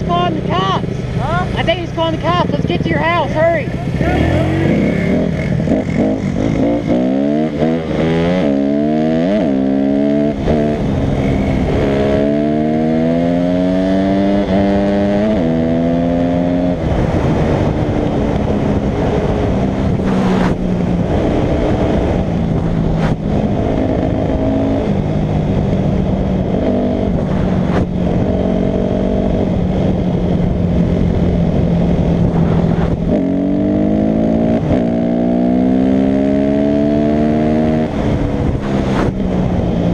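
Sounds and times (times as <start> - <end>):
dirt bike engine revving: 0.0 - 18.3, 19.0 - 25.2, 31.8 - 39.9.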